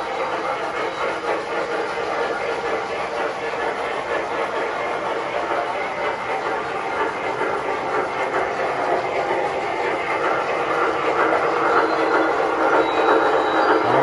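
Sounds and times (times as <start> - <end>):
model train wheels clacking: 0.0 - 14.0.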